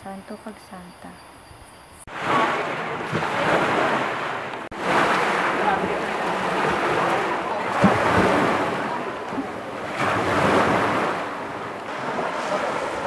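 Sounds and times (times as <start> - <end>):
sea surf washing over rocks: 2.1 - 13.0.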